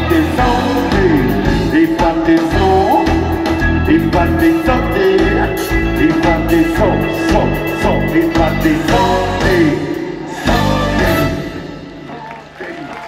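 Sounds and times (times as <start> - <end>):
drums: 0.0 - 13.0
live band playing: 0.0 - 13.0
person singing: 0.0 - 13.0.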